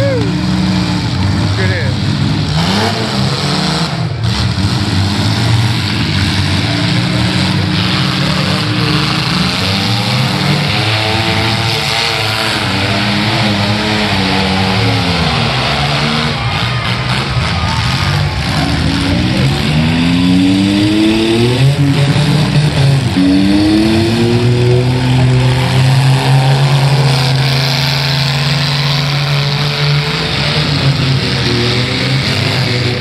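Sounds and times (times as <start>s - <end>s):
truck engines revving hard: 0.0s - 33.0s.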